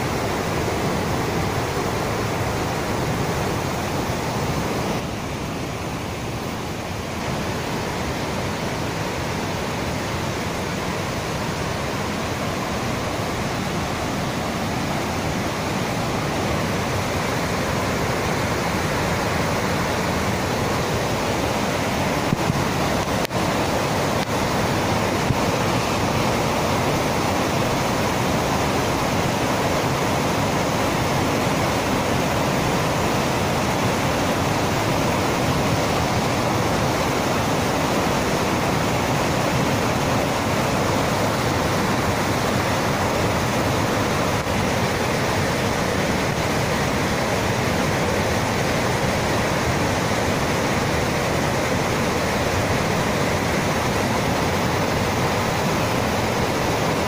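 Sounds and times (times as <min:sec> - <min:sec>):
flooded river rushing over rocks: 0:00.0 - 0:57.0.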